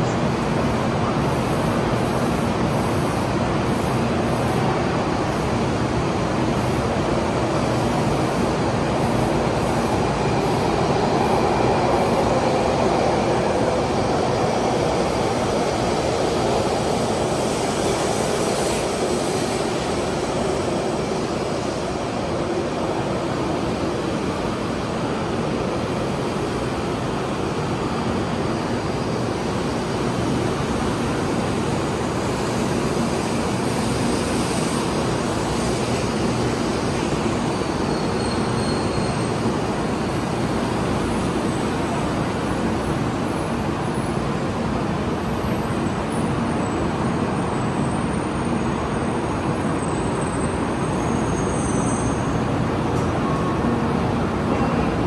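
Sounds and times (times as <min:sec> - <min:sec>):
train rolling slowly: 0:00.0 - 0:55.0.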